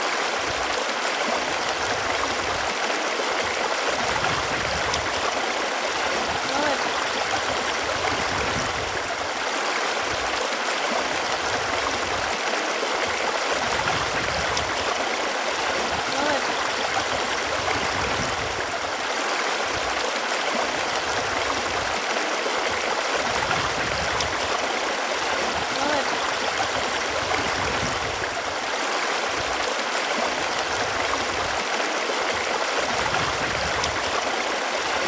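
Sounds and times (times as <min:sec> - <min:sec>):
running water: 0:00.0 - 0:35.0.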